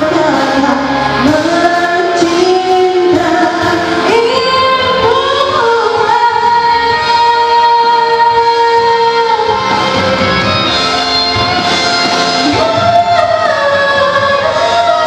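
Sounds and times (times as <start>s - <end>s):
instrumental backing music: 0.0s - 15.0s
woman singing into microphone: 0.0s - 15.0s.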